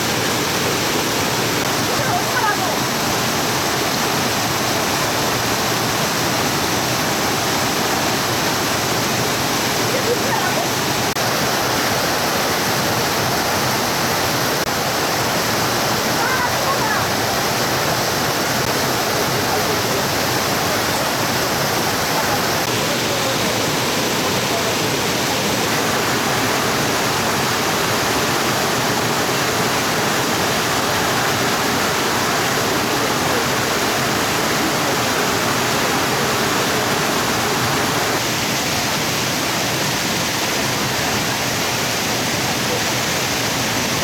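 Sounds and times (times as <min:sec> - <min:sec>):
mountain stream rushing: 0:00.0 - 0:44.0.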